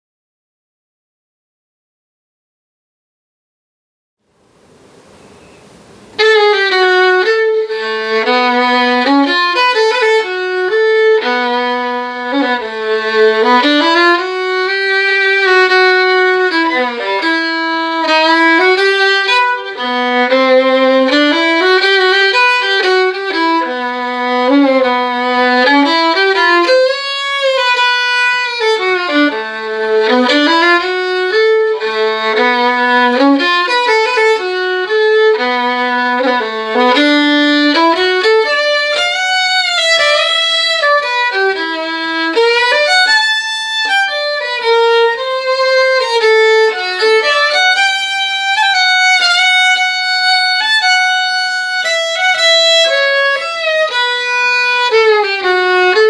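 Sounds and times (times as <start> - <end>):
solo violin playing a waltz: 5.2 - 56.0.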